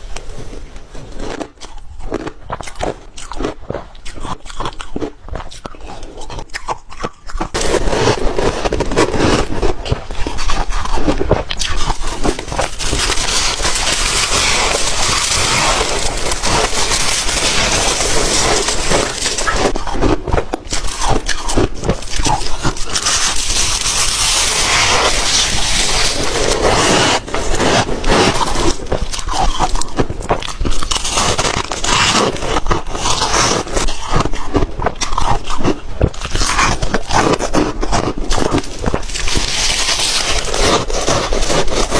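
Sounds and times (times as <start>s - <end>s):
ice crunching between teeth: 0.1s - 41.9s.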